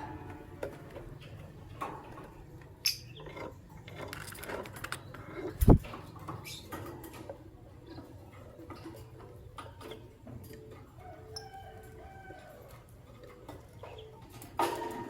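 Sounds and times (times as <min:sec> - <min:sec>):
beaks and feet tapping cage: 0:00.0 - 0:15.0.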